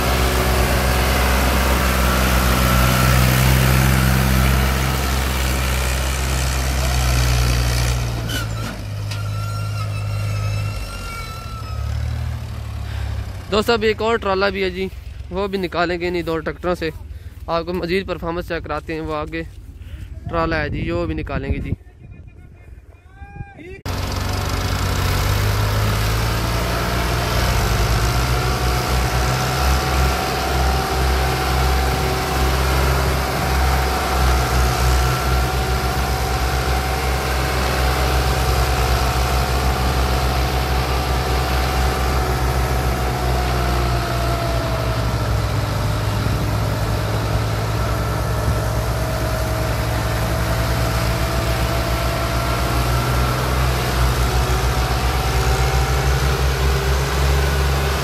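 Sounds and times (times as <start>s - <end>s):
tractor diesel engines under load: 0.0s - 22.9s, 23.8s - 58.0s.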